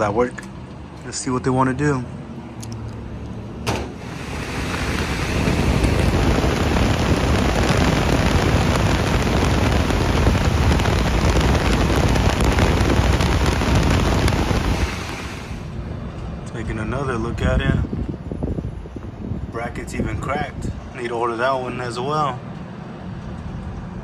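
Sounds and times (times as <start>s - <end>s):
fan spinning with loud rush: 2.0s - 24.0s.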